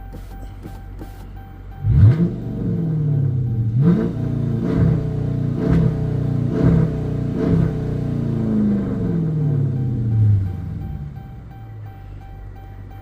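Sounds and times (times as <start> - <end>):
car exhaust idling and revving: 0.0 - 13.0.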